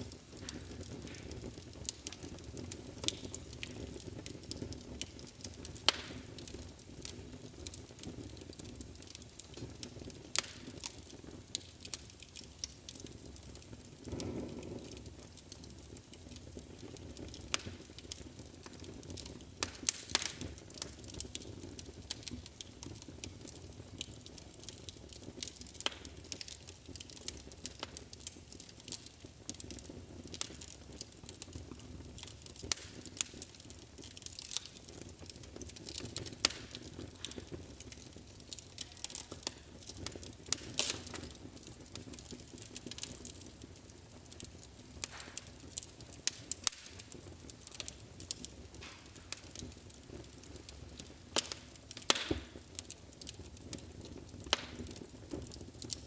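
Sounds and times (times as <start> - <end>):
wood fire crackling: 0.0 - 56.0
sharp pops and snaps: 0.1 - 56.0.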